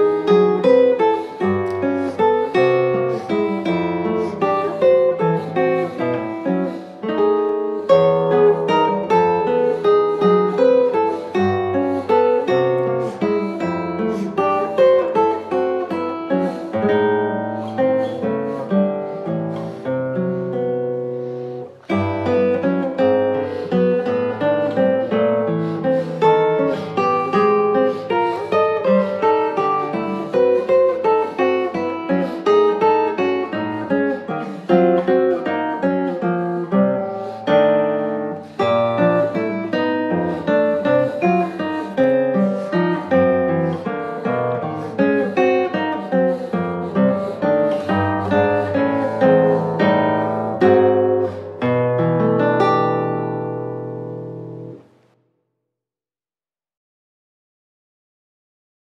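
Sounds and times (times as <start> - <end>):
classical guitar playing: 0.0 - 55.2.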